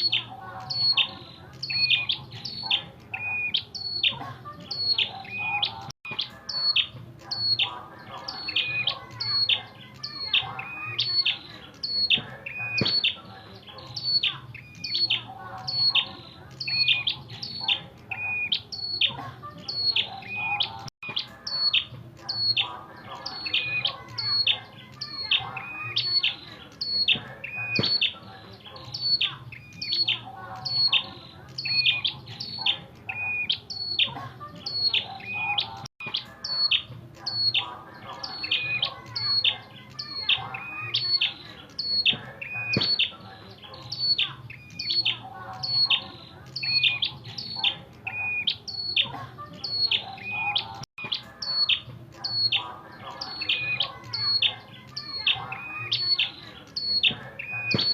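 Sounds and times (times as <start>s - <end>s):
bird chirping sharply: 0.0s - 57.9s.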